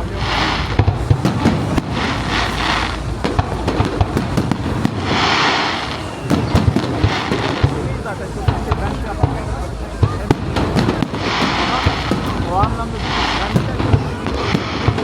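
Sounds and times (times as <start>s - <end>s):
fireworks bangs and pops: 0.0s - 15.0s
fireworks hissing: 0.0s - 15.0s.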